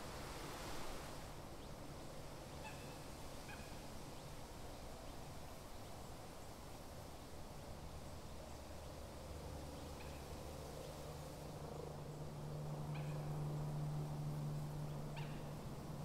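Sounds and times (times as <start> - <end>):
open-air background rumble and hiss: 0.0 - 16.0.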